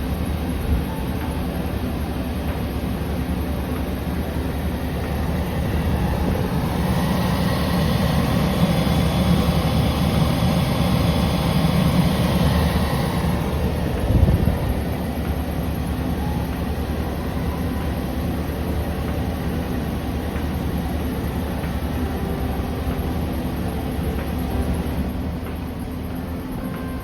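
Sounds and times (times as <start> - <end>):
van engine running: 0.0 - 27.0.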